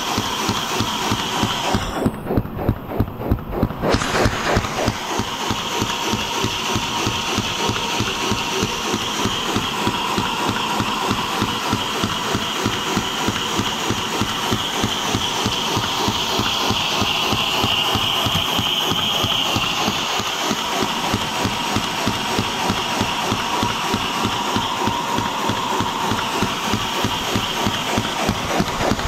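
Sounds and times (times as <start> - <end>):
model engine rhythmic clatter: 0.0 - 29.0.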